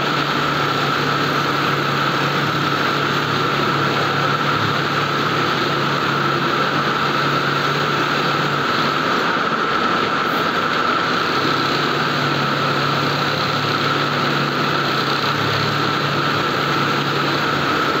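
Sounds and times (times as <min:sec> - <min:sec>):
industrial sewing machine running: 0:00.0 - 0:18.0
whir of factory machinery: 0:00.0 - 0:18.0.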